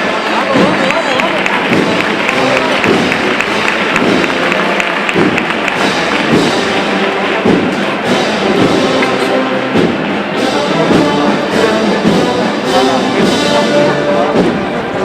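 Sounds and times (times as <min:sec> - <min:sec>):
brass band playing a march: 0:00.0 - 0:15.0
drum beats: 0:00.0 - 0:15.0.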